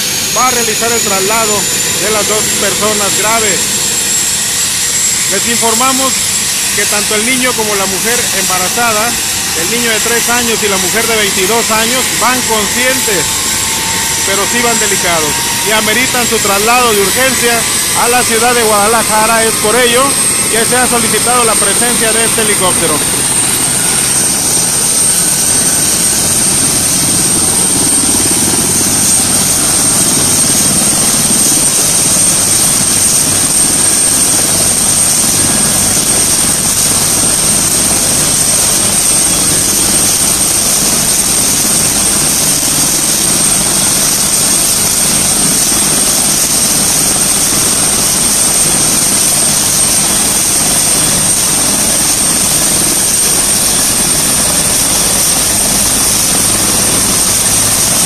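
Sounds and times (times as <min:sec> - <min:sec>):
helicopter rotor and engine: 0:00.0 - 0:58.0
high turbine whine: 0:00.0 - 0:58.0.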